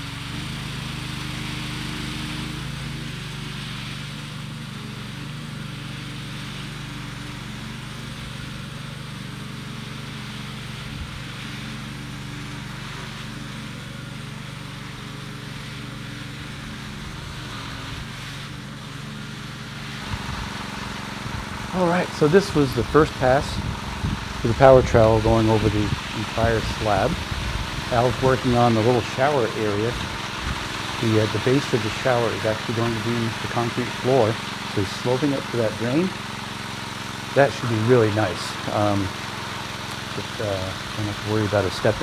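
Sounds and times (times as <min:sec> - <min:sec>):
small gasoline engine running: 0:00.0 - 0:42.0.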